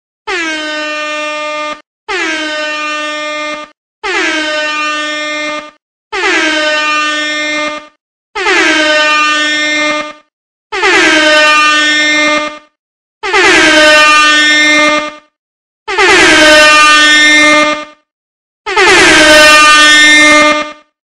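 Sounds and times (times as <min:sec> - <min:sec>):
air horn blasts: 0:00.3 - 0:15.1, 0:16.0 - 0:18.1, 0:18.7 - 0:20.9.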